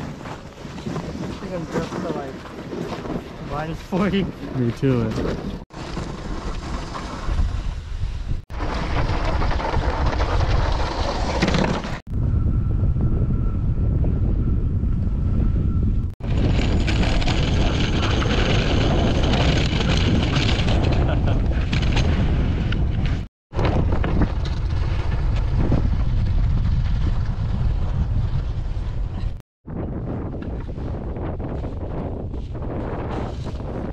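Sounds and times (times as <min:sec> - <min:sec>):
strong wind buffeting microphone: 0:00.0 - 0:33.9.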